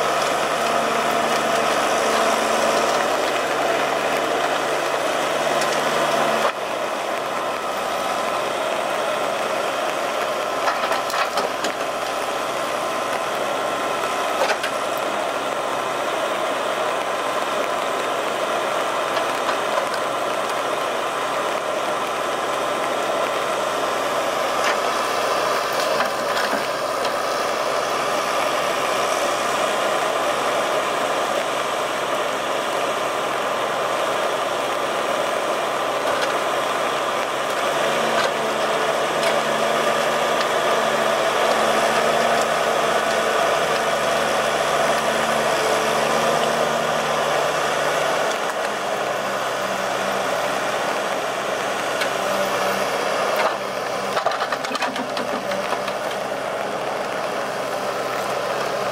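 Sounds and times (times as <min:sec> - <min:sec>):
diesel engine running under load: 0:00.0 - 0:58.9
hydraulic crane loading logs: 0:00.0 - 0:58.9.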